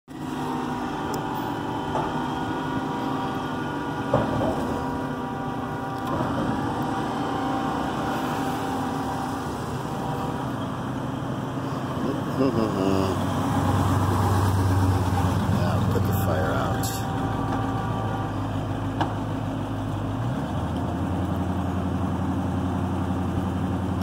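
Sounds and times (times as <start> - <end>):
large engine running: 0.1 - 24.0.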